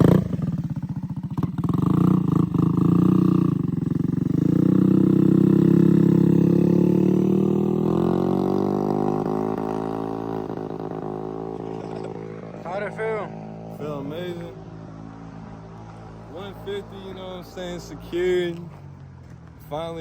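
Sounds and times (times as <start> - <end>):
moped engine revving: 0.0 - 20.0.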